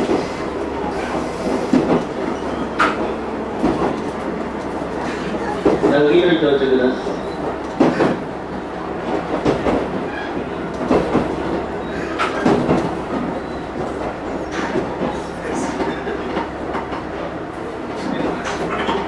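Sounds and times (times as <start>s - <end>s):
railcar rolling rumble: 0.0s - 19.0s.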